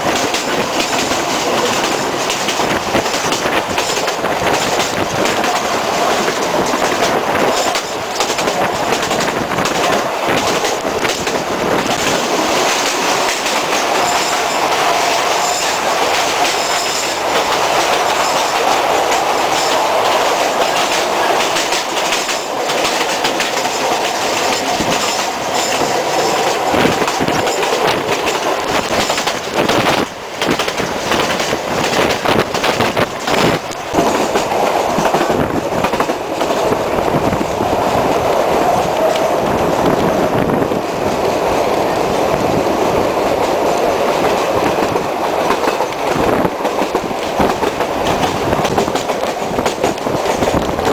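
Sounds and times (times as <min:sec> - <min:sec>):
train carriage rumbling: 0:00.0 - 0:50.9
wheels clicking over rail joints: 0:00.0 - 0:50.9.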